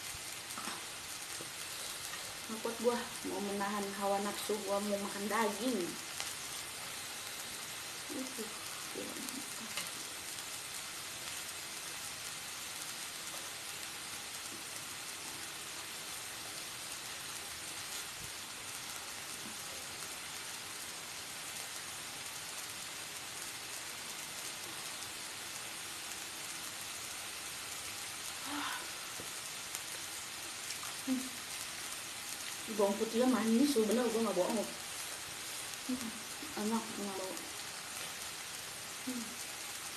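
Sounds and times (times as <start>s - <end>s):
pork sizzling in a pan: 0.0s - 39.9s.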